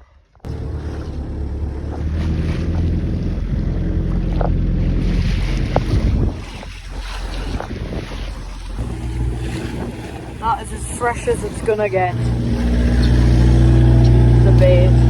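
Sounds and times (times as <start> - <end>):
water noise: 0.0 - 15.0
boat engine running: 0.4 - 15.0
wind buffeting microphone: 0.4 - 15.0.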